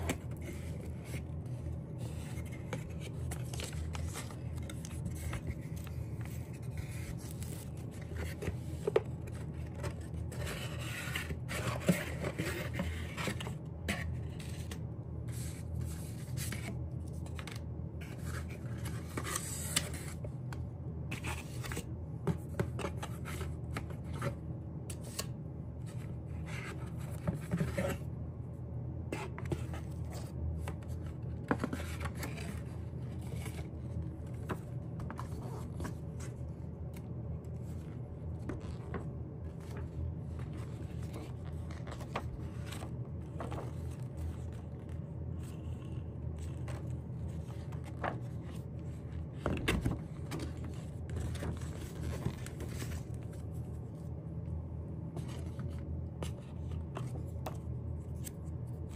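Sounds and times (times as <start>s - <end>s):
paper and card rustling: 0.0s - 20.5s, 21.1s - 28.1s, 29.1s - 54.1s
steady low hum: 0.0s - 58.9s.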